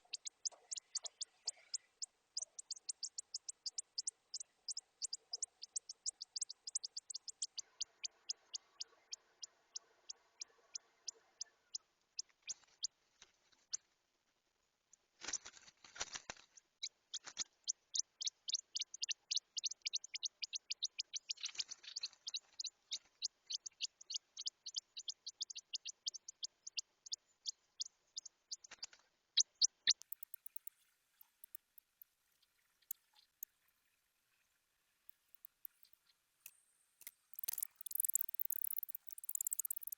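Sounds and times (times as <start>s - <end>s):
bird chicks cheeping: 0.0s - 13.0s, 16.8s - 33.5s, 35.1s - 39.9s.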